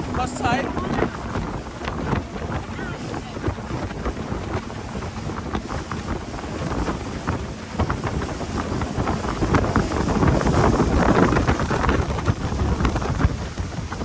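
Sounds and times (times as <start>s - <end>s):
water splashing: 0.0s - 14.0s
wind buffeting microphone: 0.0s - 14.0s.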